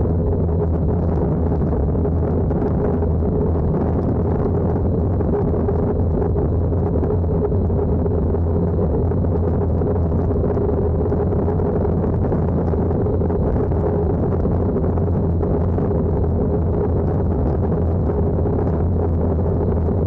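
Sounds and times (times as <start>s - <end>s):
vehicle engine drone: 0.0s - 20.0s.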